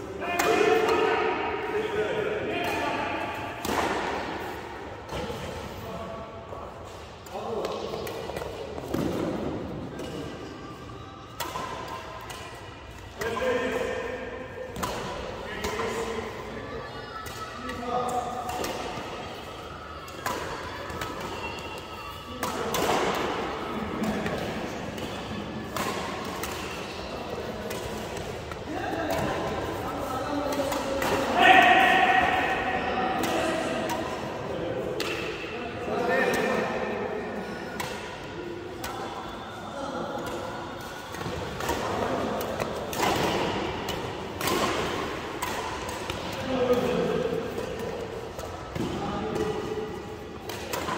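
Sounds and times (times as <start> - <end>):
racket hitting shuttlecock: 2.6 - 5.8, 6.8 - 10.6, 11.3 - 16.5, 17.2 - 35.6, 36.2 - 39.4, 40.2 - 50.9.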